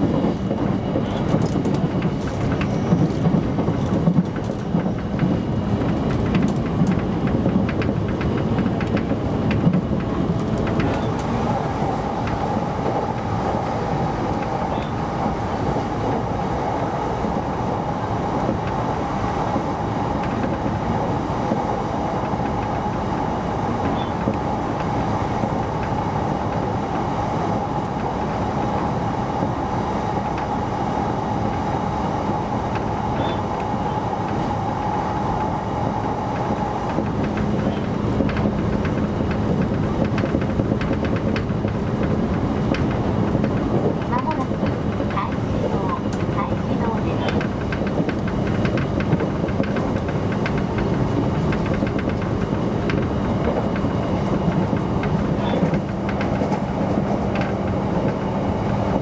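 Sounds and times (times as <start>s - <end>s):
rumble of wheels on rail: 0.0s - 59.0s
wheels clickety-clack: 0.0s - 59.0s.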